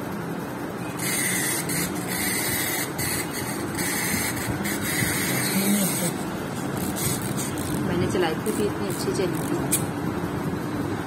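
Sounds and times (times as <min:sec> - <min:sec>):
wind-up toy spring motor whirring: 0:00.9 - 0:09.9.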